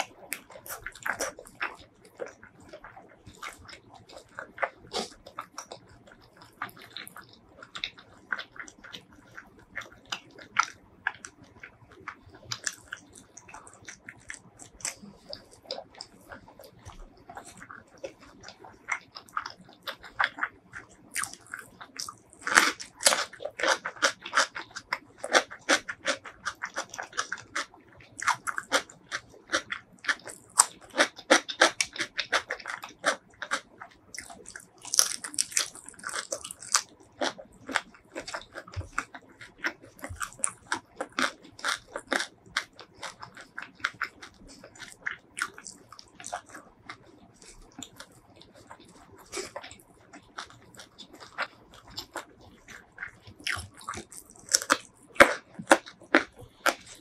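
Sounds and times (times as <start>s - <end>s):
person chewing crisp food: 0.0s - 57.0s.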